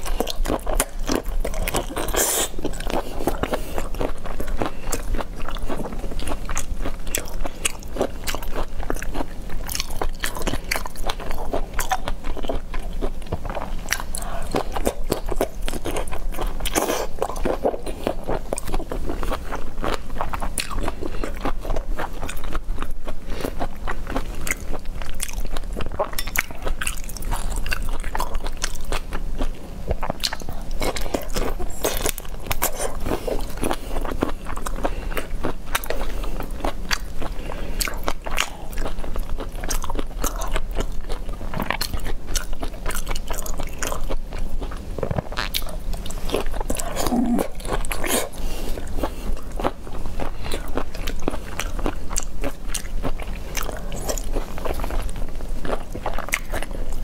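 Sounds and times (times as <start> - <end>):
person chewing crunchy shrimp: 0.0 - 57.0.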